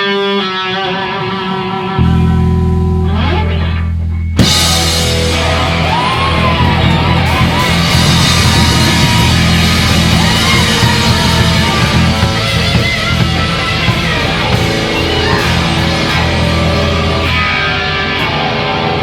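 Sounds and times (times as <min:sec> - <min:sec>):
bending lead guitar line: 0:00.0 - 0:19.0
distorted electric guitars: 0:00.0 - 0:19.0
drums: 0:00.0 - 0:19.0
rock band playing loudly: 0:00.0 - 0:19.0.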